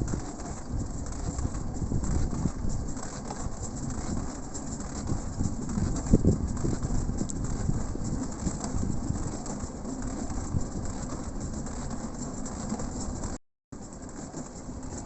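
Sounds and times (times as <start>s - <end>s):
small clicks and rattles: 0.0s - 15.0s
wheels rumbling on rails: 0.0s - 15.0s.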